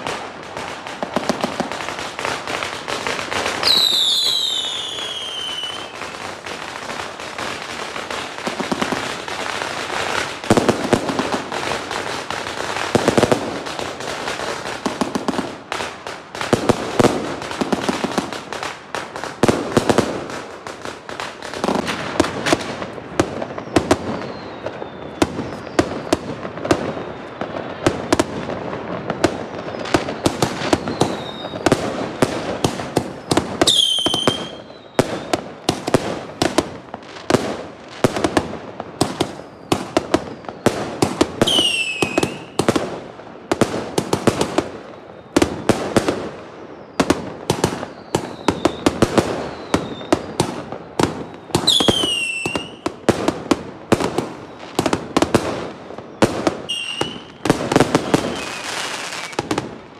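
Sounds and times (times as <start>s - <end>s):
fireworks bangs and crackling: 0.0s - 59.9s
fireworks whistling: 0.0s - 59.9s.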